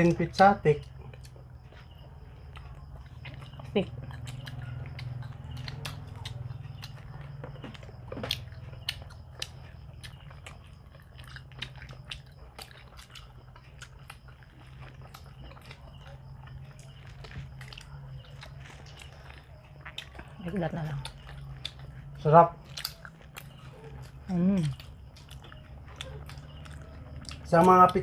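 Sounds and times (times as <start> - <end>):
people chewing pizza: 0.0 - 28.0
steady low hum: 0.0 - 28.0.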